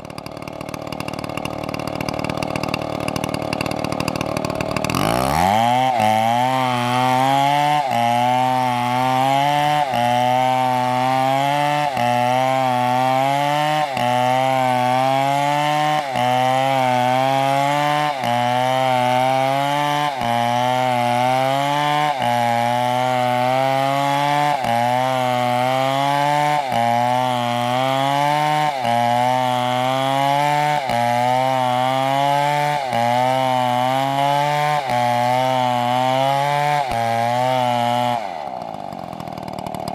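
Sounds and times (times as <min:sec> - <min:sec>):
chainsaw cutting into wood: 0:00.0 - 0:39.9.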